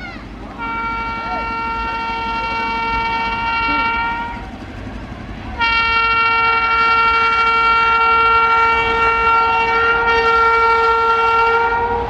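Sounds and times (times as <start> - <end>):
express train rumbling: 0.0 - 12.0
locomotive horn blast: 0.5 - 4.6, 5.5 - 12.0.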